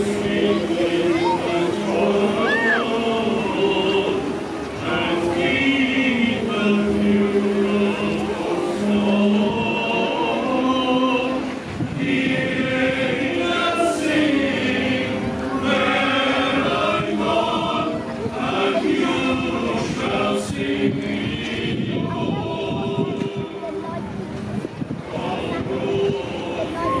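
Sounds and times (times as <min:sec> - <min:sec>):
choir singing slow song: 0:00.0 - 0:27.0.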